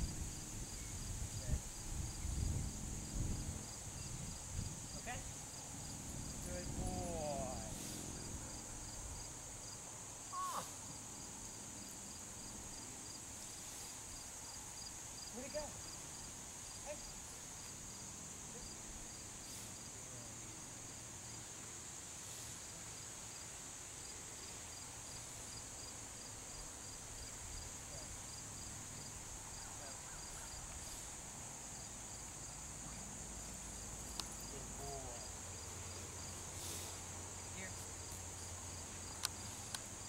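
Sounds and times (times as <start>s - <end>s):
insect chirping: 0.0s - 40.0s
insect chorus: 0.0s - 40.0s.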